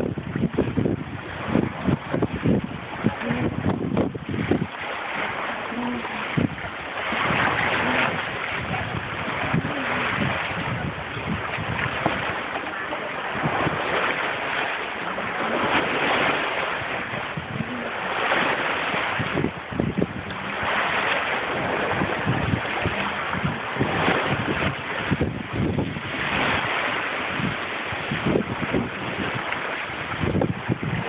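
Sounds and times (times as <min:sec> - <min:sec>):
surf roaring: 0:00.0 - 0:31.0
wind buffeting microphone: 0:00.0 - 0:31.0.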